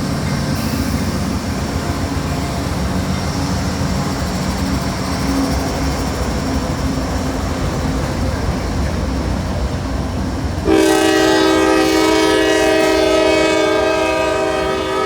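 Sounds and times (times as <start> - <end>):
diesel locomotive engines: 0.0 - 15.0
rail noise: 0.0 - 15.0.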